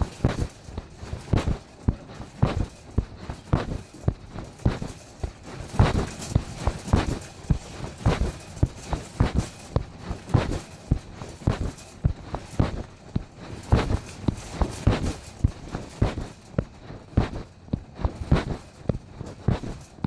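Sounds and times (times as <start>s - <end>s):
fabric rubbing on microphone: 0.0s - 20.0s
muffled footsteps: 0.0s - 20.0s.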